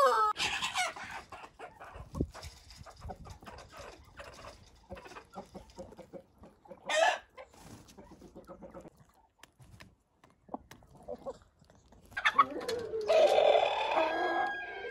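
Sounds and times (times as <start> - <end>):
roosters and hens clucking: 0.0 - 14.9.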